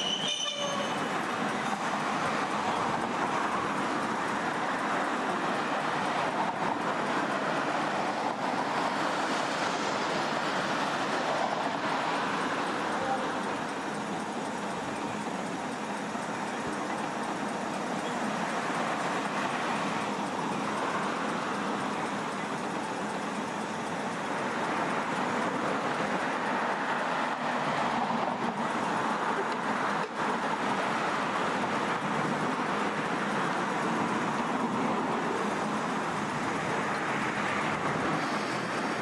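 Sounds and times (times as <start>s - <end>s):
vehicles passing on road: 0.0s - 39.0s.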